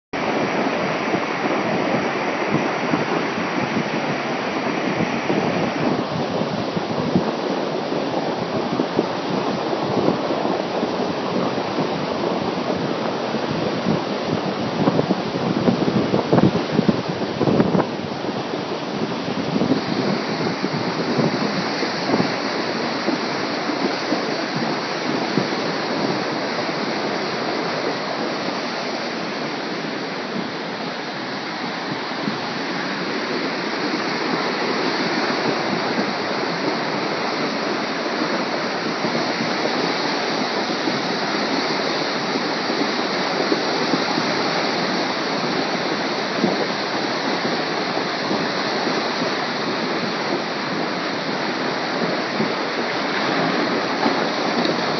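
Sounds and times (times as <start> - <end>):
river water rushing: 0.2 - 54.9.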